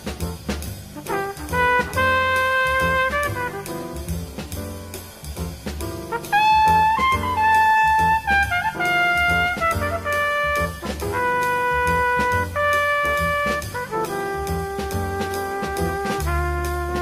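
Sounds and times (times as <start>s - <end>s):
bass line: 0.0s - 17.0s
brass horn melody: 0.0s - 17.0s
drum kit beat: 0.0s - 17.0s.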